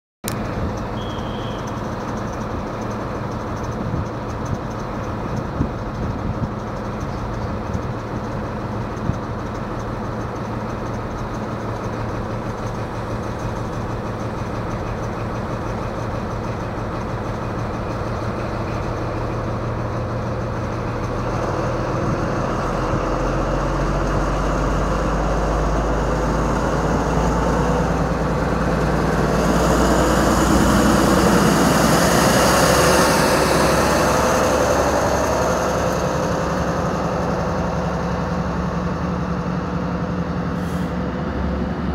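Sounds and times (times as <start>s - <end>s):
diesel locomotive engine: 0.2s - 41.9s.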